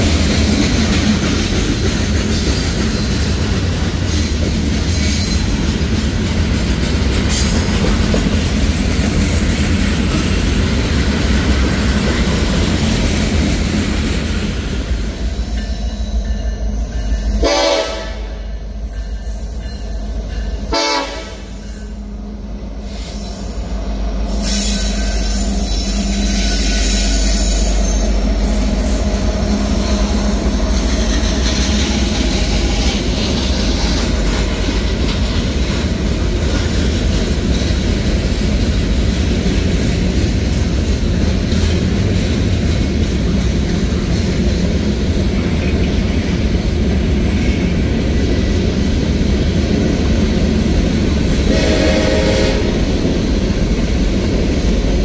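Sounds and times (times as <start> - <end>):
diesel locomotives passing: 0.0 - 55.0
freight cars rumbling on rails: 0.0 - 55.0.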